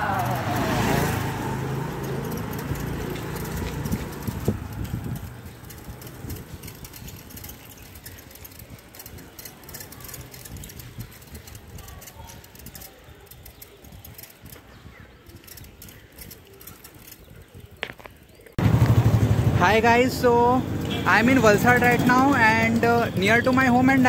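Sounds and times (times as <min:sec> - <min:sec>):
bicycle clicks and rattles: 0:00.0 - 0:19.0, 0:20.2 - 0:24.0
wind rumbling on microphone: 0:00.0 - 0:19.5.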